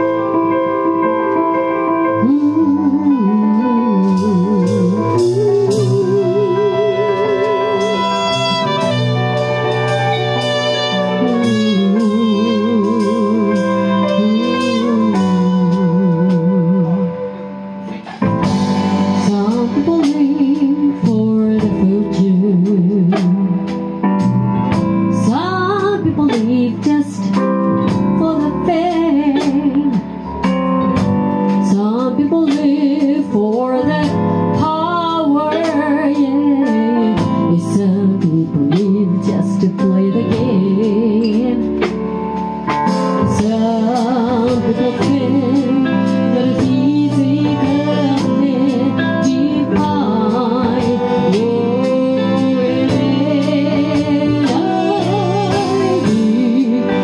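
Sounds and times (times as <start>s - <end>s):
live band playing soul ballad: 0.0s - 57.0s
woman singing with vibrato: 2.1s - 17.4s, 19.0s - 23.6s, 25.1s - 30.1s, 31.6s - 41.9s, 43.2s - 57.0s.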